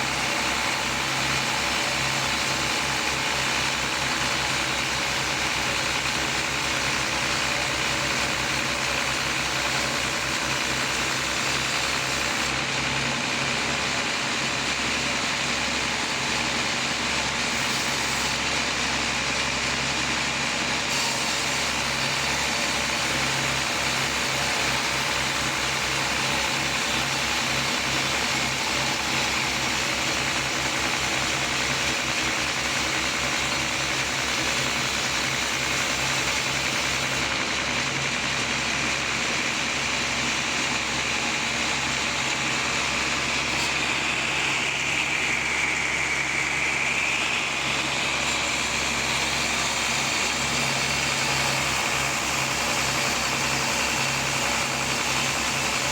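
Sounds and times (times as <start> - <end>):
rapid low engine pulse: 0.0 - 55.9
sawmill machinery running: 0.0 - 55.9.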